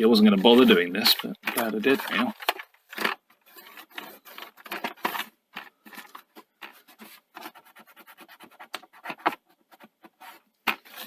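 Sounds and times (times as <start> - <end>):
scratchy rubbing on plastic panel: 0.0 - 11.0.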